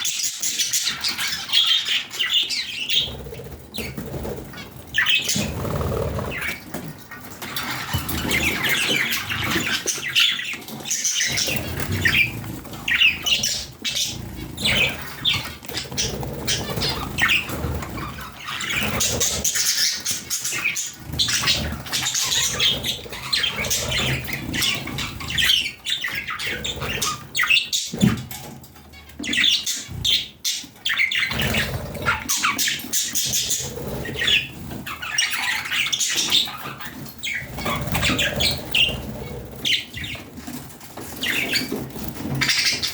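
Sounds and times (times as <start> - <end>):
budgerigars chirping and chattering: 0.0 - 42.9.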